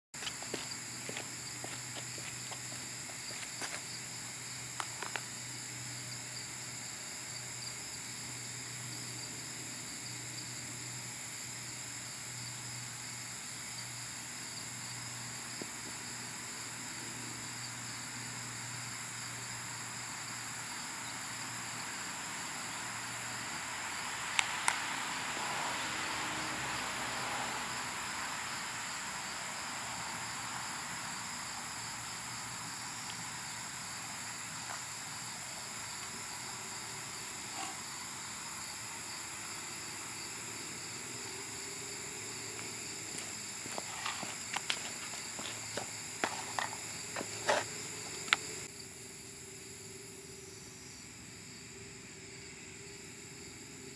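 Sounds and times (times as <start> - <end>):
crickets chirring: 0.2 - 53.9.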